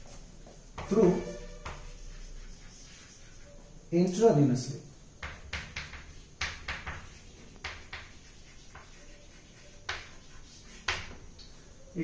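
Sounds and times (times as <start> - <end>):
chalk tapping and scratching on chalkboard: 0.0 - 4.2, 5.2 - 11.6.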